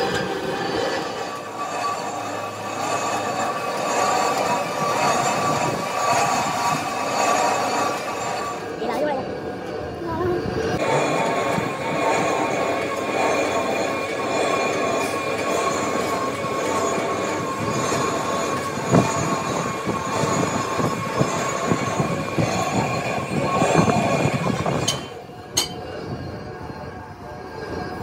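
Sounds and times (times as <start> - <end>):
machinery high whine: 0.0 - 28.0.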